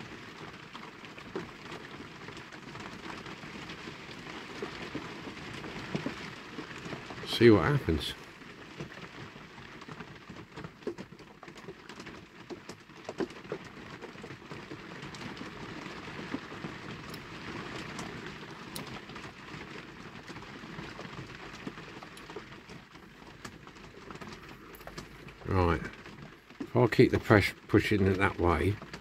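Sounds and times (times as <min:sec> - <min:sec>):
heavy rain on shed roof: 0:00.0 - 0:29.0.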